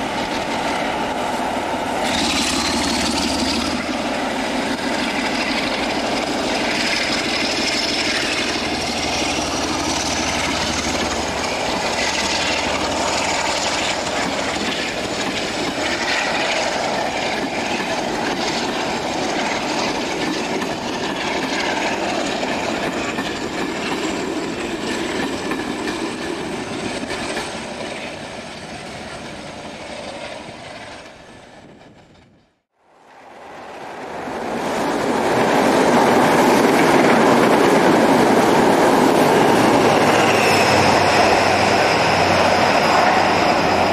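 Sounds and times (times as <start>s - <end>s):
diesel locomotive working hard: 0.0s - 43.9s
train running noise: 0.0s - 43.9s.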